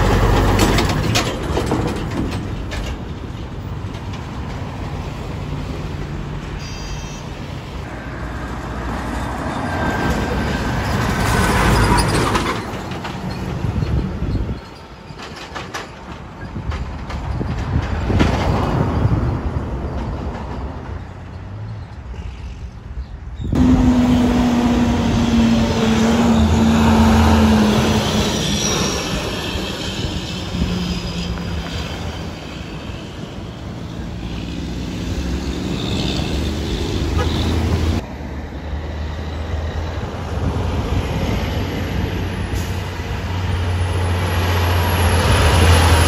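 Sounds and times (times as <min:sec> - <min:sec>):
truck engines running: 0:00.0 - 0:46.0.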